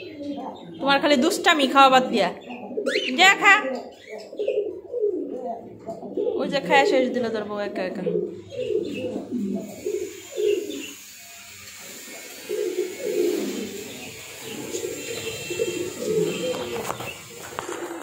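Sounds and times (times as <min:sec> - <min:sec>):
low cooing bird calls: 0:00.0 - 0:11.2, 0:11.9 - 0:18.0.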